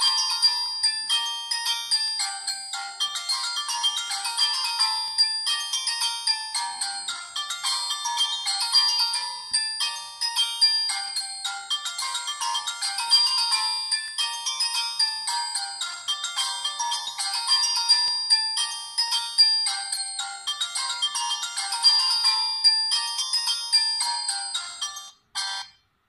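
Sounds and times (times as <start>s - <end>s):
phone ringtone melody: 0.0s - 26.0s.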